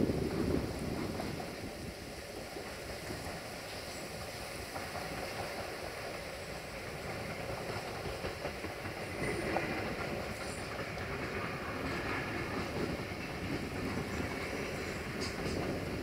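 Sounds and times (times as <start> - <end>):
train running noise: 0.0 - 16.0.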